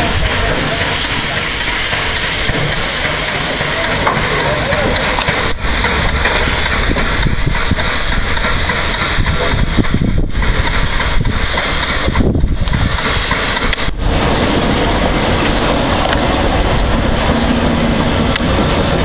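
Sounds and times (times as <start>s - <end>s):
low rumble: 0.0s - 19.0s
steam locomotive hissing: 0.0s - 19.0s.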